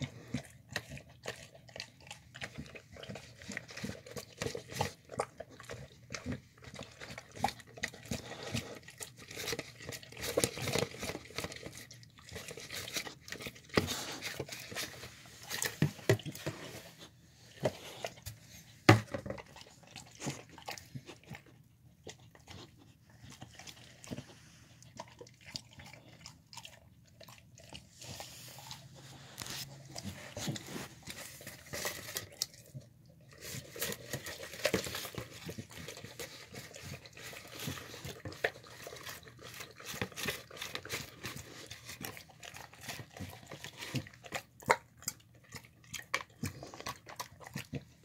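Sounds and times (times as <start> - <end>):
dog chewing and lapping: 0.0 - 48.0.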